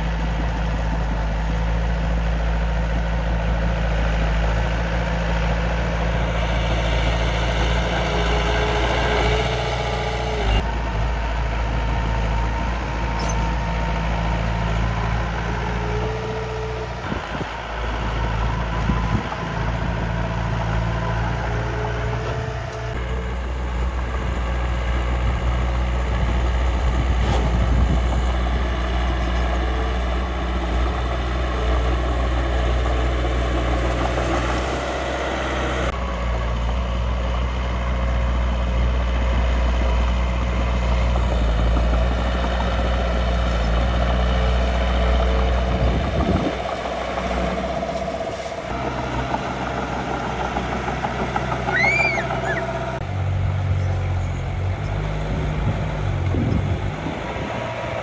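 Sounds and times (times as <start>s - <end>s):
small engines droning: 0.0s - 58.0s.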